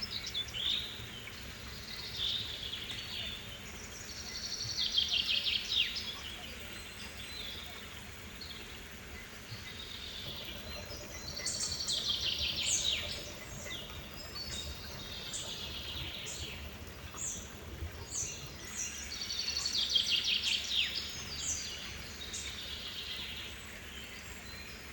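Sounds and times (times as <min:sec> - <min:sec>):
birds chirping: 0:00.0 - 0:23.6.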